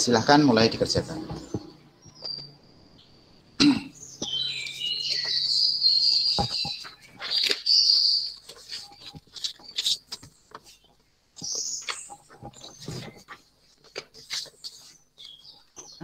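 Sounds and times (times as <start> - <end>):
small bird chirping: 0.2 - 13.4, 14.2 - 16.0.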